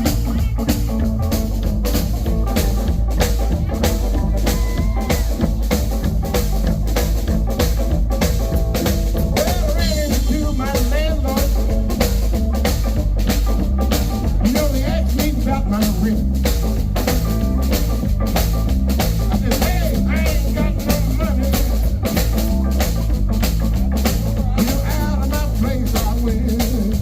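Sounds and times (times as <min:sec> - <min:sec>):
bass line: 0:00.0 - 0:27.0
drum kit beat: 0:00.0 - 0:27.0.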